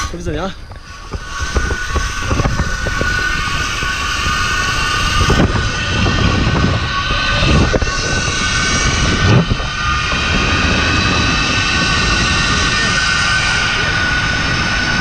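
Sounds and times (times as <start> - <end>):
wind buffeting microphone: 0.0 - 15.0
zip line pulleys whining: 0.0 - 15.0.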